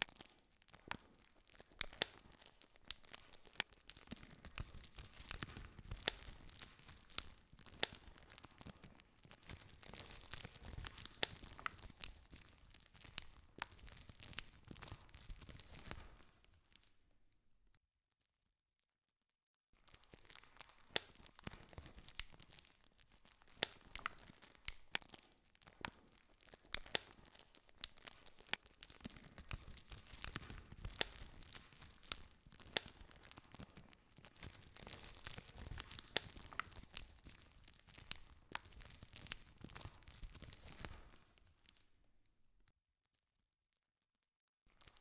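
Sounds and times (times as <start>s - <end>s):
campfire crackling and popping: 0.0s - 16.9s, 19.8s - 42.0s
soft hiss of burning: 0.0s - 16.9s, 19.9s - 41.8s.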